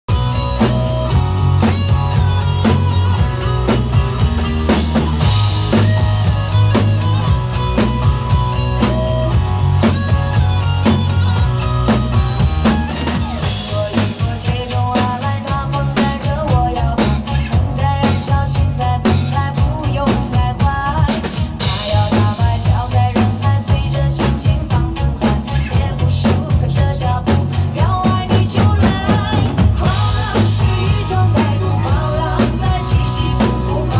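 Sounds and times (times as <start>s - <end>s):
drum kits playing: 0.1s - 33.9s
pop backing track: 0.1s - 33.9s.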